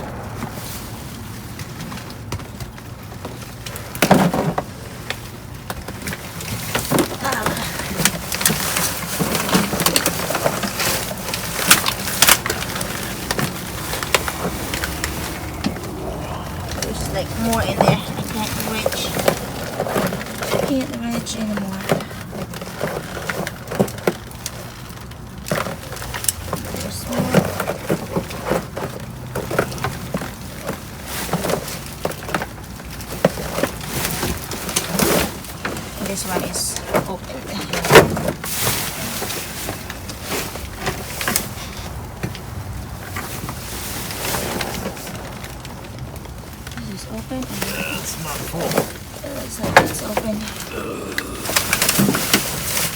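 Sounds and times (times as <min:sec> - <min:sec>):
trash bags crackling and rustling: 0:00.0 - 0:52.9.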